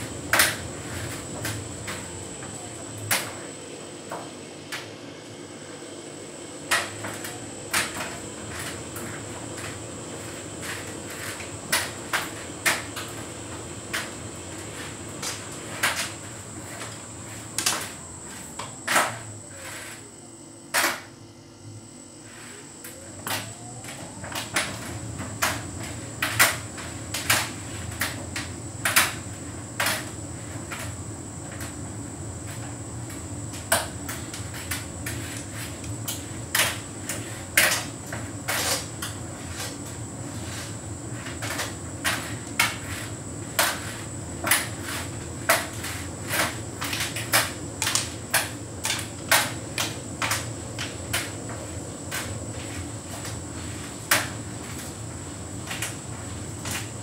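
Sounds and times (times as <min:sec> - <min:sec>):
dryer motor and fan hum: 0:00.0 - 0:57.0
faint high whine: 0:00.0 - 0:57.0.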